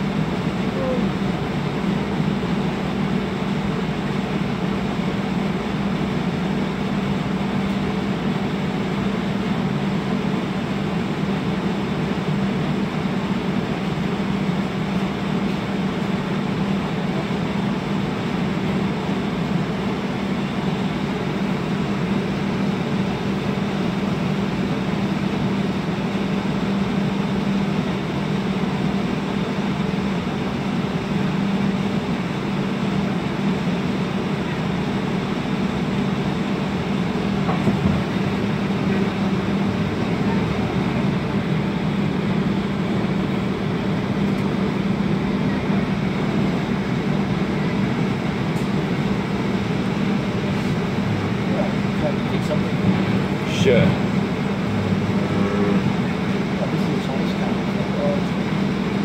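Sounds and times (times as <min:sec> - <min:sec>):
streetcar rumbling on rails: 0:00.0 - 0:59.0.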